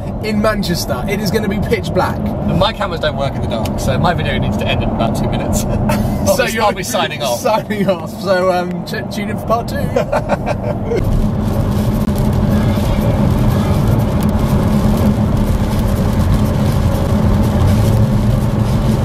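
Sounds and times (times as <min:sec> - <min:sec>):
car engine drone: 0:00.0 - 0:19.0
tyre and road noise: 0:00.0 - 0:19.0.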